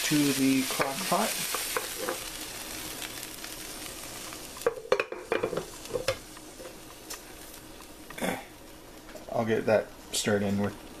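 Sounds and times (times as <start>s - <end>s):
vegetables sizzling: 0.0s - 11.0s.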